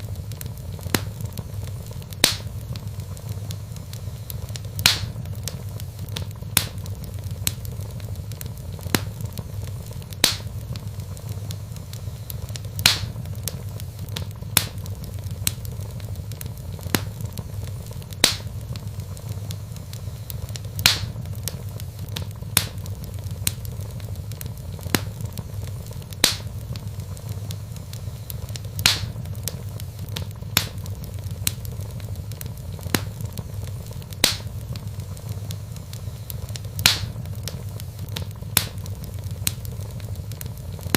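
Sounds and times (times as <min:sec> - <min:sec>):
log fire crackling and popping: 0:00.0 - 0:40.9.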